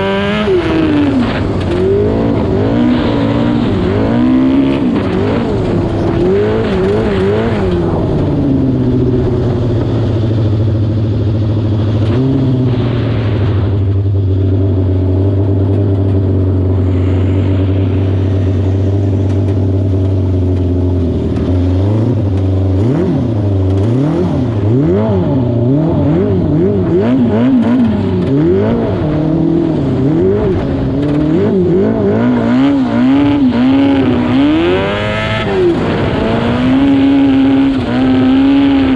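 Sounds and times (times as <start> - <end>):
lawn mower engine revving: 0.0 - 38.9.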